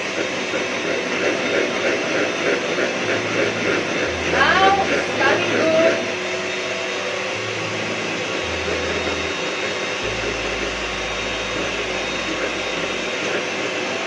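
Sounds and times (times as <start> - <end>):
electric mixer running: 0.0 - 14.0.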